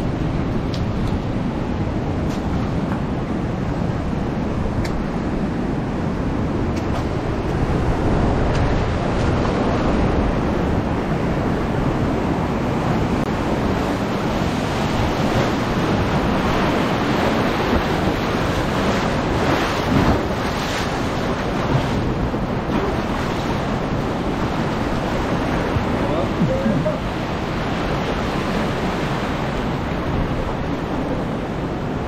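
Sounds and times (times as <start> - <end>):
ocean surf washing in: 0.0 - 32.0
wind rumbling on microphone: 0.0 - 32.0.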